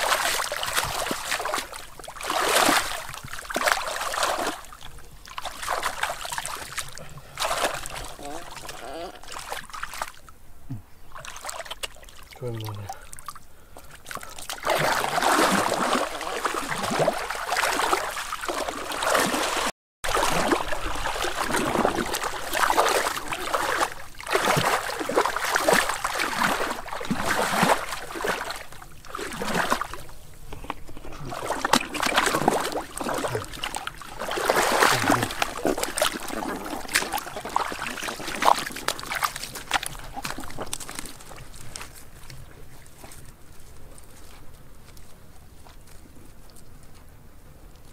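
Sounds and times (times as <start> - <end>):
muddy water splashing and sloshing: 0.0 - 47.9.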